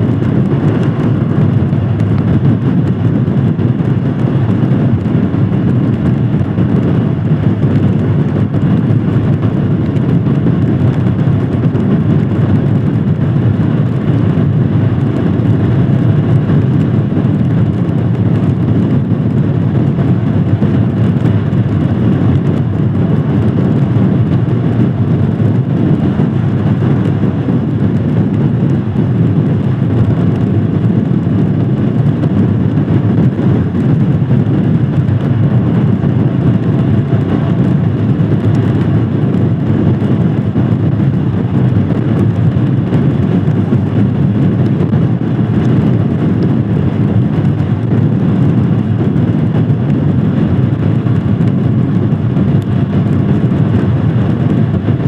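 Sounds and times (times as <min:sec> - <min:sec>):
road noise: 0:00.0 - 0:48.5
motorcycle engine cruising: 0:00.0 - 0:54.8
wind rush: 0:00.0 - 0:55.0.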